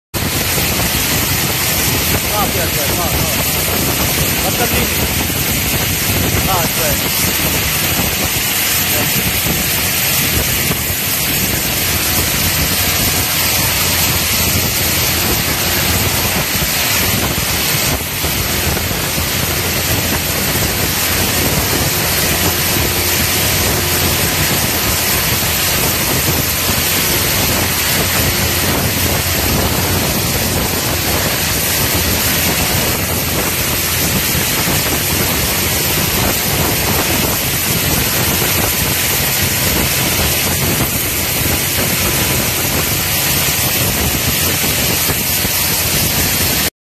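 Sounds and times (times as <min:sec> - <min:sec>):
water jets spraying inside pipe: 0:00.2 - 0:46.7.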